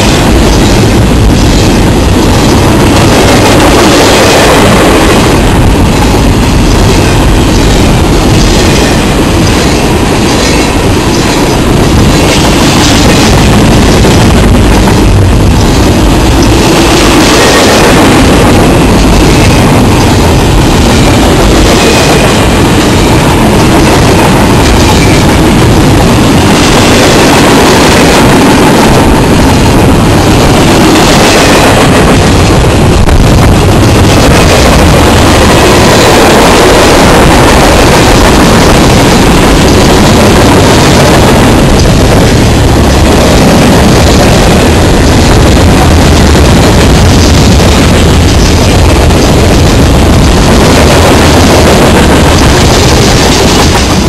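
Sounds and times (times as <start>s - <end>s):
steel wheels rumbling and rattling: 0.0s - 54.0s.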